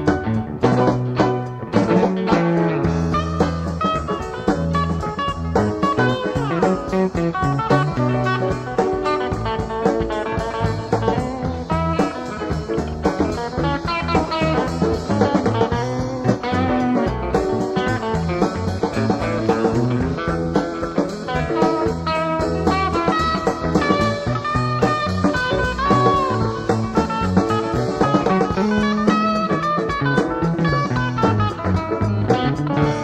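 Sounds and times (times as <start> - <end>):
guitar-led band music: 0.0 - 33.0.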